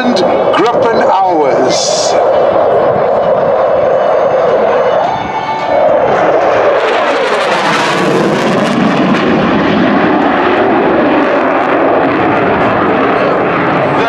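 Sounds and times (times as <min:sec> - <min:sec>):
jet engine passing: 0:00.0 - 0:14.0.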